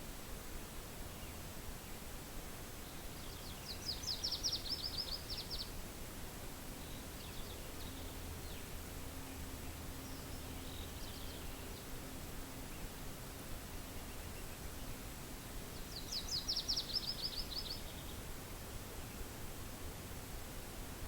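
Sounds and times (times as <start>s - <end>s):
soft hiss of wind: 0.0s - 21.0s.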